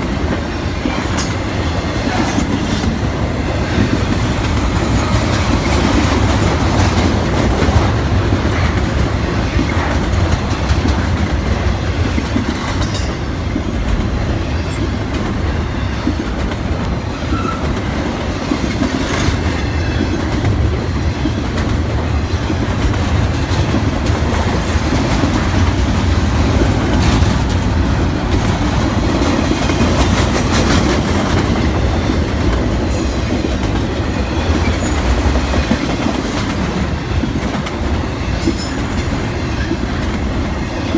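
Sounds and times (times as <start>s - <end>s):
freight train rumbling past: 0.0s - 40.9s
wheels clacking over rail joints: 0.1s - 40.9s.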